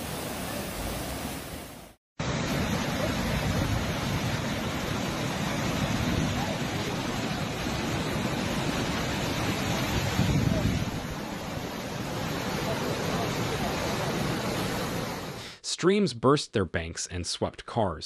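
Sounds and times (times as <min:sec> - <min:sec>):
floodwater rushing: 0:00.0 - 0:15.4
swollen river rushing: 0:00.0 - 0:15.4.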